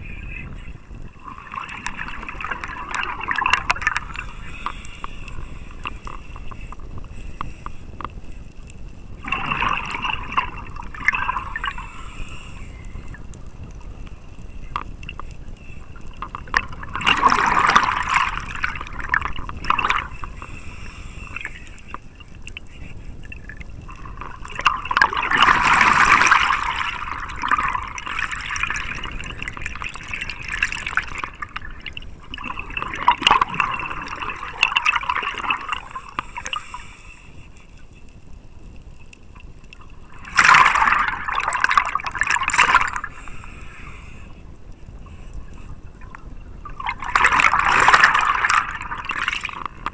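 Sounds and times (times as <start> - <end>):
regulator bubbles rushing: 0.0 - 6.8, 9.1 - 11.8, 12.8 - 20.6, 21.2 - 36.6, 39.3 - 43.2, 45.8 - 49.9
underwater water wash: 0.0 - 49.9.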